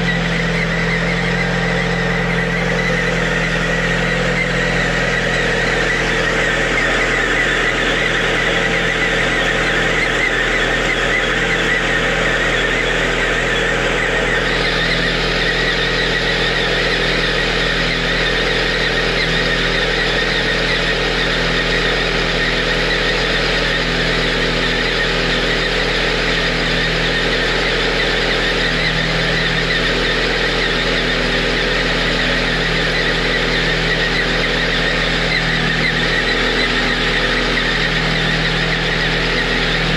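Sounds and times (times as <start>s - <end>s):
car engine idling: 0.0s - 39.9s
steady high whistle: 0.0s - 39.9s.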